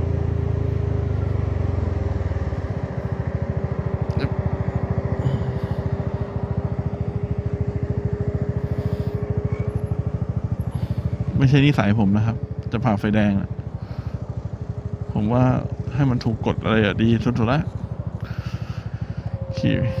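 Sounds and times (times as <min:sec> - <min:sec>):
scooter engine idling: 0:00.0 - 0:20.0.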